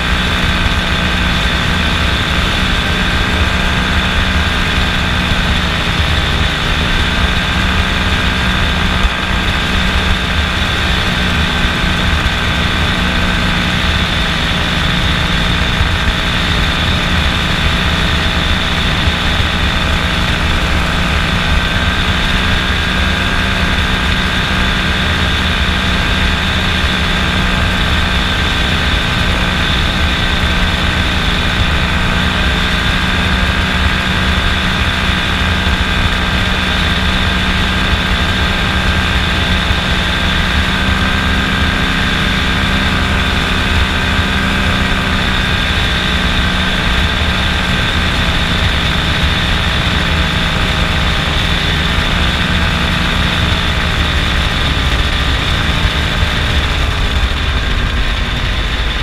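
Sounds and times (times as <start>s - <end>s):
two-stroke engine and propeller drone: 0.0s - 59.0s.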